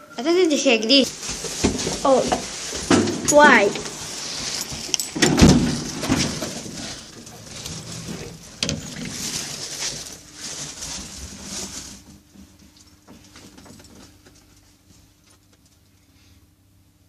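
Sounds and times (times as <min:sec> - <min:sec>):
faint low hum of lift: 0:00.0 - 0:17.0.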